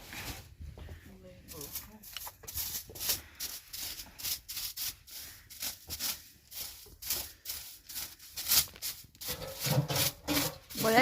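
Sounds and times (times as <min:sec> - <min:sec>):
rough scraping strokes: 0:01.5 - 0:11.0.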